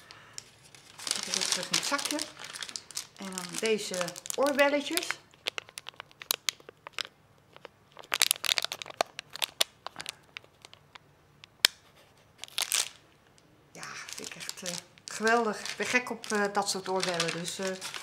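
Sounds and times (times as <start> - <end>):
plastic bag crinkling: 0.0 - 11.0, 12.4 - 13.0, 13.8 - 18.0.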